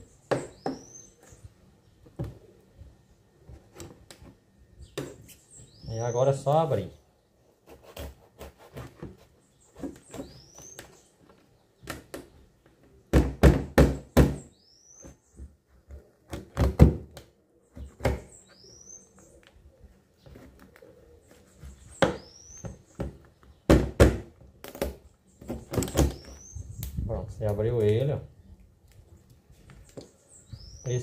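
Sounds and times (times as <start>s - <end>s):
bird chirping: 0.0s - 13.1s, 14.1s - 16.4s, 17.5s - 31.0s.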